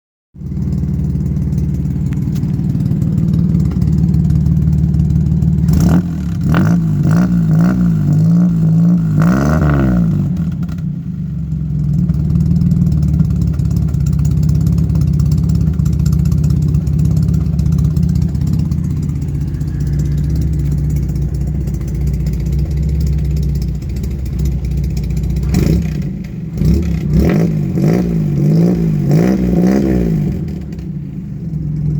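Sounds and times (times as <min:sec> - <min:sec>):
car engine idling: 0:00.4 - 0:31.9
engine throttle blips: 0:00.4 - 0:31.9.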